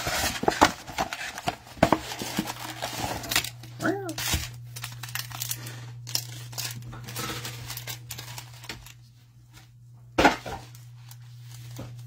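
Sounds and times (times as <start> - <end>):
card packs rustling: 0.0 - 9.8, 10.5 - 12.0
low electrical hum: 0.0 - 12.0.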